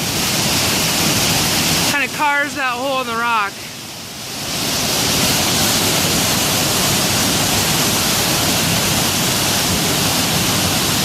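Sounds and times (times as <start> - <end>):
water rushing over rapids: 0.0 - 11.0.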